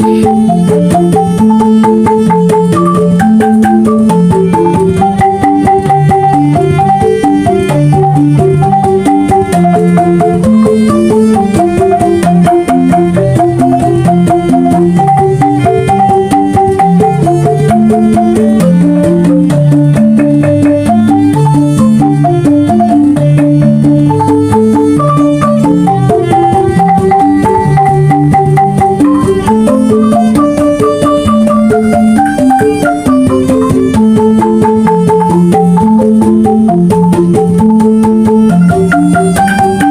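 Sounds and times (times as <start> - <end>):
bamboo tubes ringing: 0.0 - 39.9
hand drum strokes: 0.0 - 39.9.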